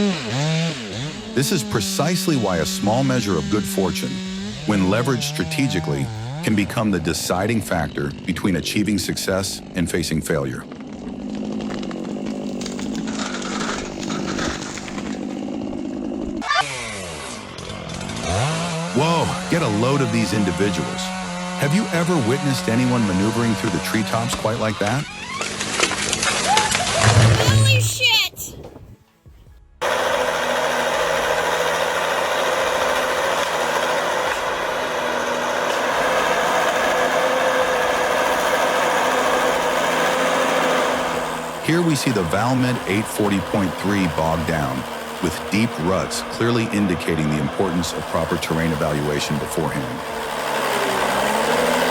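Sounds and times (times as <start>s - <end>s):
chainsaw engine running: 0.0s - 27.8s, 29.8s - 51.9s.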